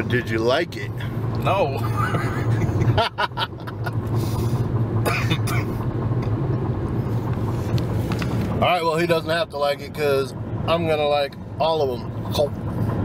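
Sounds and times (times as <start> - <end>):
car engine and tyre drone: 0.0 - 13.0.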